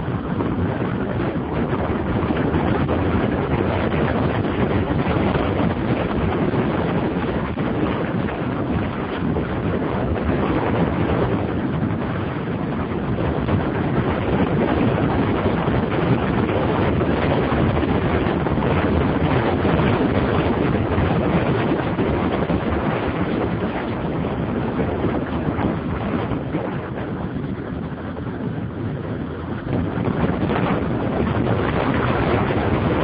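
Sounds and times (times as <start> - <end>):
motorcycle running noise: 0.0 - 33.0
wind buffeting microphone: 0.0 - 33.0.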